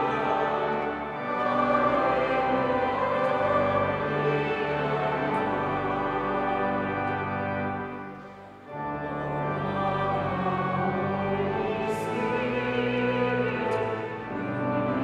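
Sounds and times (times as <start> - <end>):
choir singing: 0.0 - 15.0
pipe organ chords: 0.0 - 15.0.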